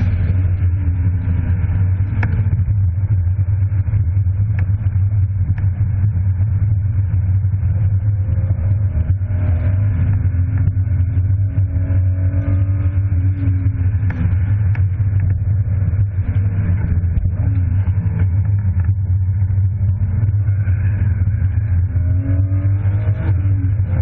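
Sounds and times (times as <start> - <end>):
car engine pulling hard: 0.0 - 24.0
low cabin drone: 0.0 - 24.0.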